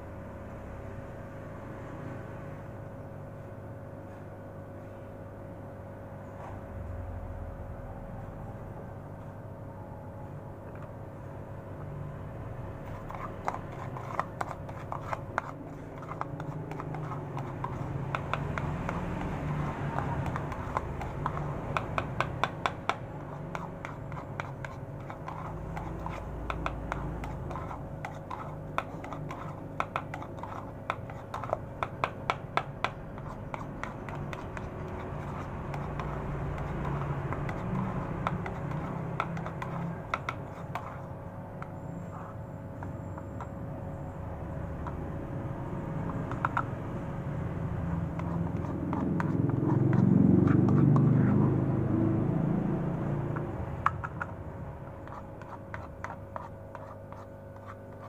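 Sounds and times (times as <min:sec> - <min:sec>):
spoon stirring in plastic bowl: 0:10.6 - 0:11.8, 0:12.4 - 0:58.0.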